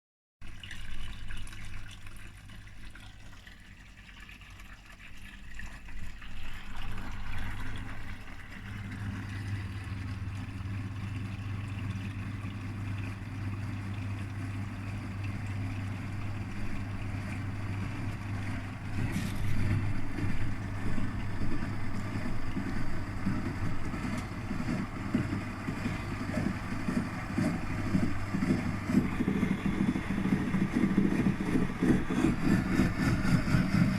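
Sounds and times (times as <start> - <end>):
washing machine drum surging: 0.4 - 33.9
washing machine motor hum: 0.4 - 33.9
water gurgling: 0.4 - 33.9.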